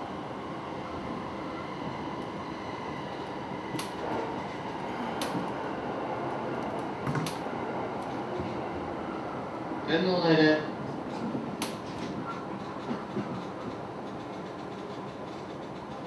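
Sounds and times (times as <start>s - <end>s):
train wheels rumbling on rails: 0.0s - 9.0s, 10.7s - 16.0s.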